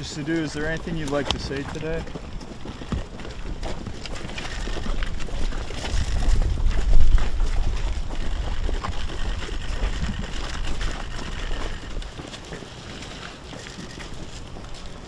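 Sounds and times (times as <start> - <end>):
wind buffeting microphone: 0.0 - 12.2
footsteps: 0.0 - 15.0.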